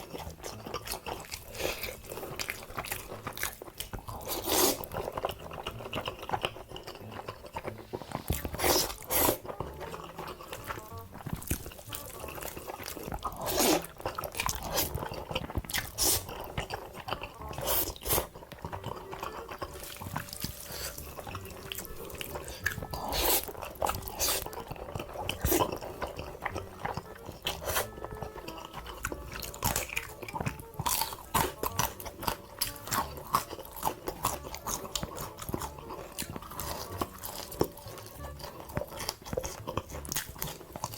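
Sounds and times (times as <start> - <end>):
background music: 0.0 - 40.9
crunchy chewing: 0.0 - 40.9.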